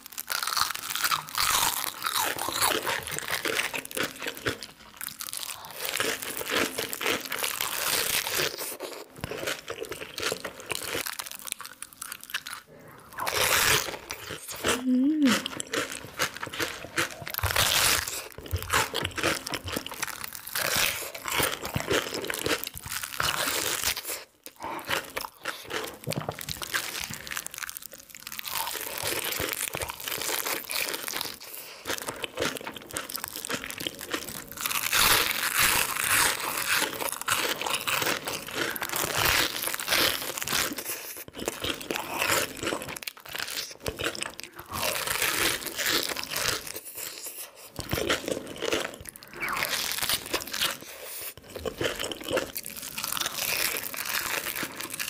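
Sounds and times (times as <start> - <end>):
crunchy fried chicken chewing: 0.0 - 55.0.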